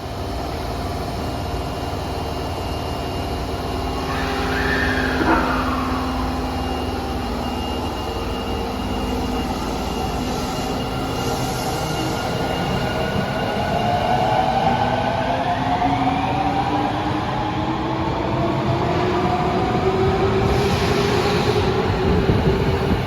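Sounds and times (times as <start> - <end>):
subway train motor whine: 0.0 - 23.0.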